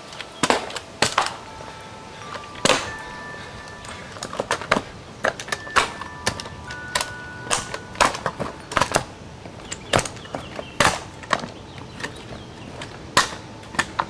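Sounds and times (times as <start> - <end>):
kick scooter clattering on paving: 2.1 - 14.0.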